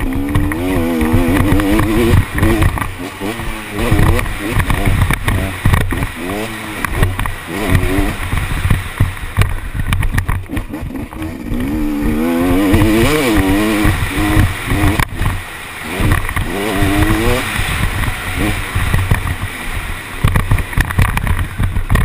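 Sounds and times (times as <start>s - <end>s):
motocross engine revving: 0.0s - 22.0s.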